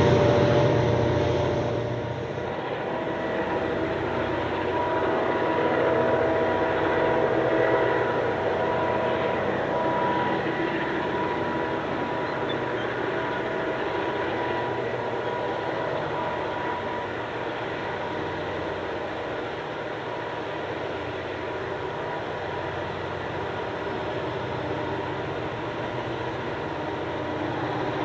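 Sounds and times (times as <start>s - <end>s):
diesel locomotive engines rumbling: 0.0s - 28.0s
steady high whine: 0.0s - 28.0s.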